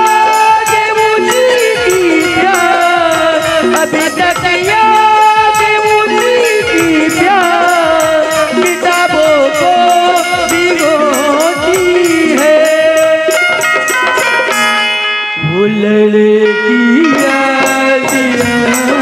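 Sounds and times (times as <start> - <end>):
jingling percussion beat: 0.0 - 15.7, 16.4 - 19.0.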